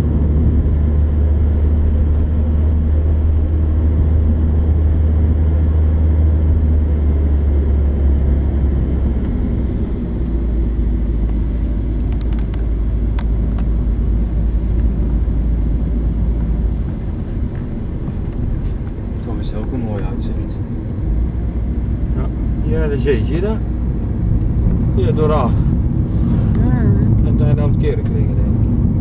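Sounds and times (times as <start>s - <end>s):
car engine and tyre drone: 0.0s - 29.0s.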